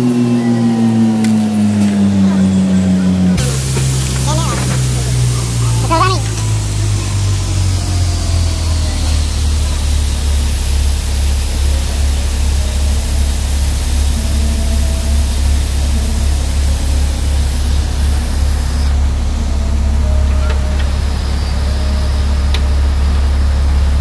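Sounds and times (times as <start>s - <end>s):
diesel truck engine idling: 0.0s - 24.0s
steady hiss: 3.1s - 24.0s.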